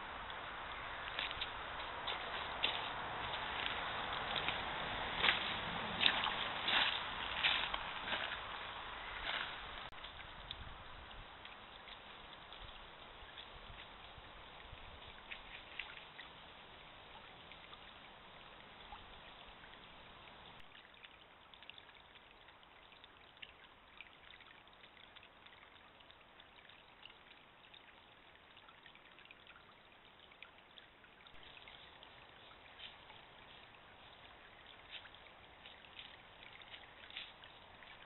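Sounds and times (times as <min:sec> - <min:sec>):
stream trickling: 0:00.0 - 0:38.0.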